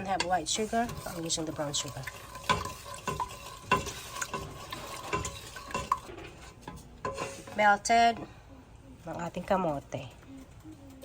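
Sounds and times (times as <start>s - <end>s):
utensil tapping and scraping pot: 0.0s - 8.4s, 9.0s - 11.0s
utensil stirring in a pot: 0.0s - 11.0s.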